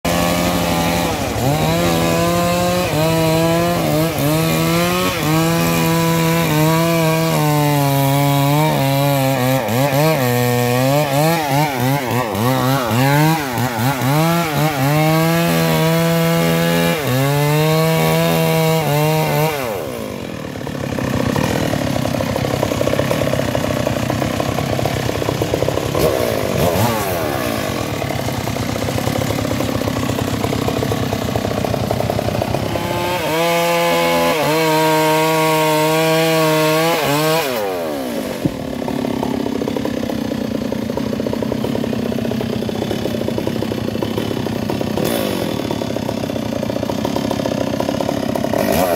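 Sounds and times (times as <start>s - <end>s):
chainsaw cutting wood: 0.0s - 48.9s
chainsaw idling: 0.1s - 48.9s.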